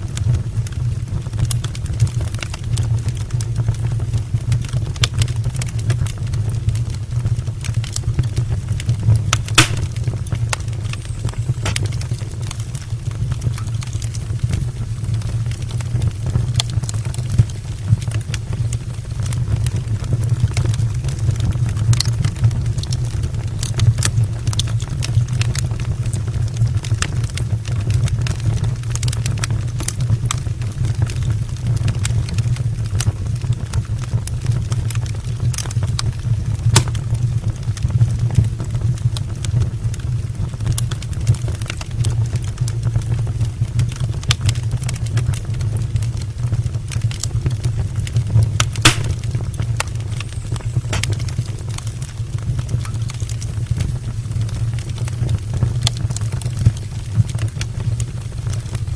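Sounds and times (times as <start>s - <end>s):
logs crackling and popping: 0.0s - 58.9s
low rumble of flames: 0.0s - 58.9s.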